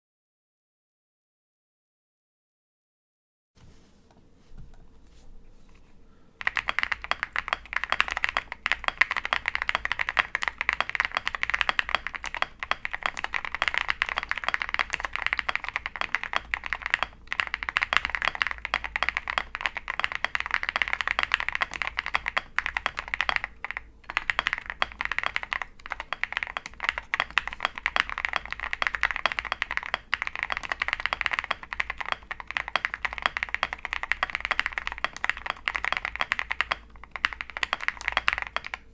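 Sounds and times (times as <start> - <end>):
typing on mechanical keyboard: 6.4 - 38.9.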